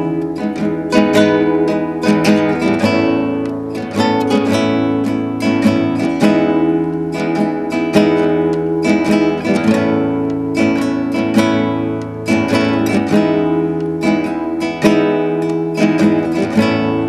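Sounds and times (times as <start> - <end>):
fingerpicked classical guitar: 0.0 - 17.0.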